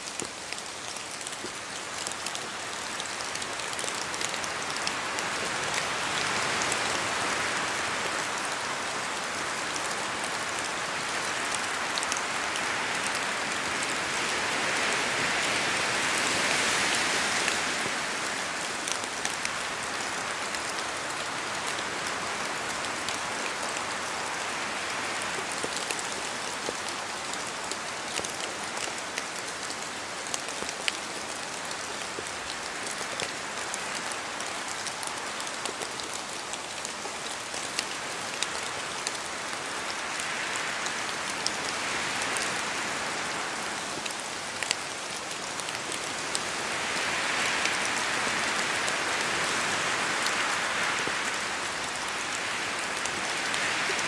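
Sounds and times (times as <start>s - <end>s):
rain falling through trees: 0.0s - 54.0s
wind: 0.0s - 54.0s.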